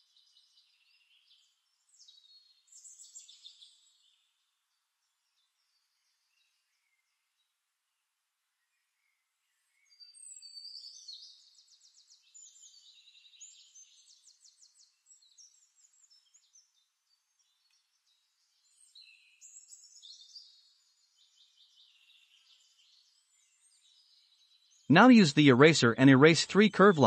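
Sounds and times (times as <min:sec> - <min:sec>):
faint birdsong chirping and trills: 0:00.0 - 0:24.9.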